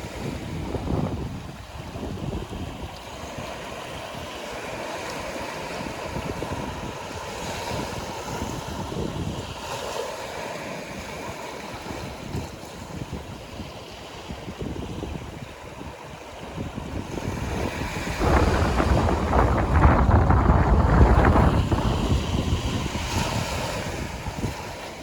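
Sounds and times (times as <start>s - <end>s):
wind buffeting microphone: 0.0s - 9.8s, 10.8s - 25.0s
sea waves washing on shore: 0.0s - 25.0s.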